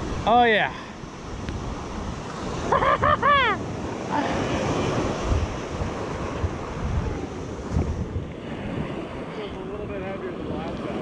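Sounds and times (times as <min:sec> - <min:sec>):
surf washing up a beach: 0:00.0 - 0:11.0
wind buffeting microphone: 0:00.0 - 0:11.0.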